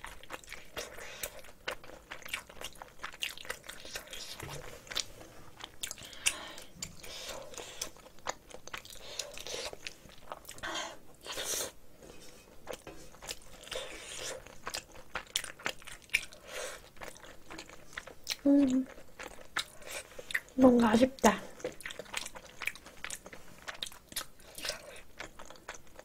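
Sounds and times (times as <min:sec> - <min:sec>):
chewing and mouth sounds: 0:00.0 - 0:11.8, 0:12.6 - 0:26.0.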